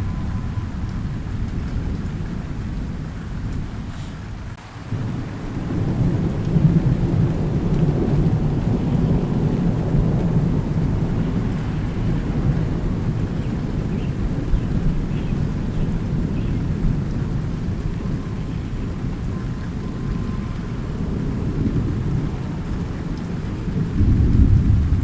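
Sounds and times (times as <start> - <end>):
rolling thunder: 0.0 - 25.0
steady rain: 0.0 - 25.0.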